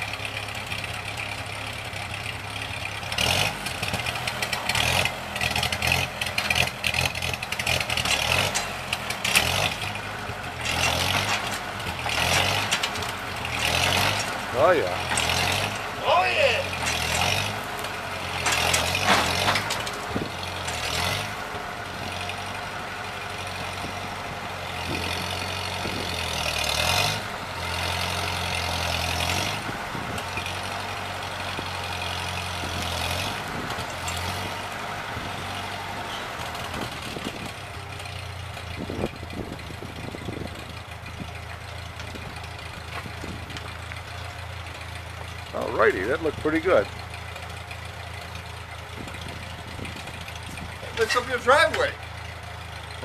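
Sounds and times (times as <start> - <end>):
tractor engine working hard: 0.0 - 53.0.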